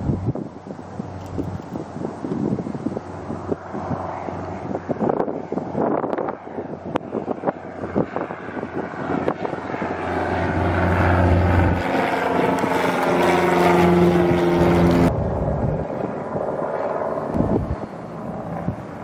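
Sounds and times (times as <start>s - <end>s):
light plane engine droning overhead: 0.0s - 19.0s.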